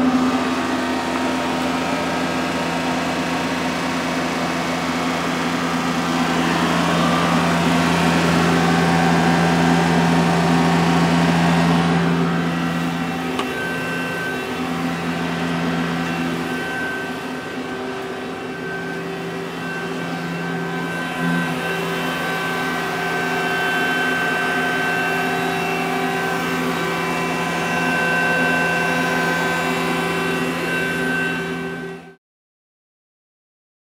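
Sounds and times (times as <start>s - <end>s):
lathe machine hum: 0.0s - 32.2s.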